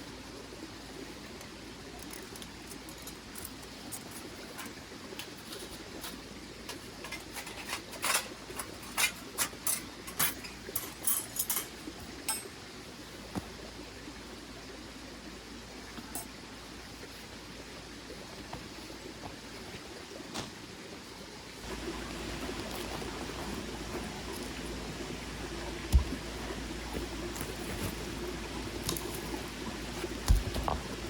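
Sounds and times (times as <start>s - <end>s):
mountain stream running: 0.0s - 31.0s.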